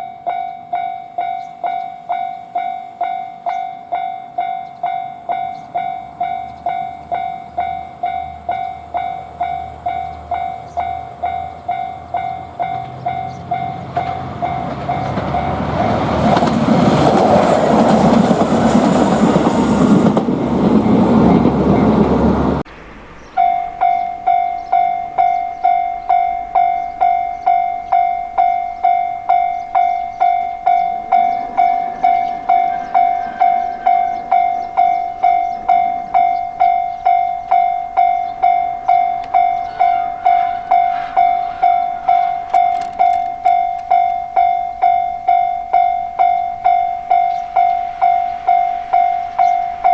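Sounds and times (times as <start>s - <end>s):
railroad crossing bell ringing: 0.0s - 22.0s, 22.8s - 49.9s
train passing with rumble: 0.0s - 49.9s.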